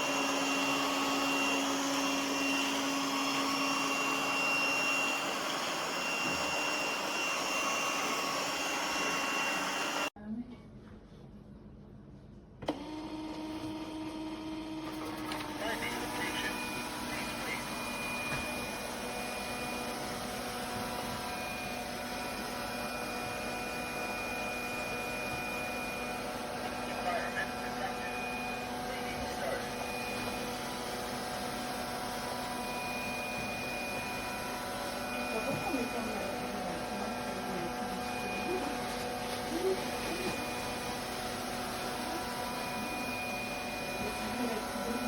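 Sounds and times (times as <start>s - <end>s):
robot vacuum suction fan rush: 0.0s - 10.1s, 15.2s - 45.0s.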